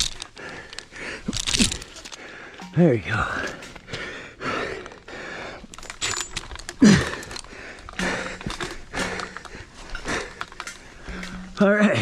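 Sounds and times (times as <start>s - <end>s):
man panting: 0.0s - 2.6s, 3.4s - 11.6s.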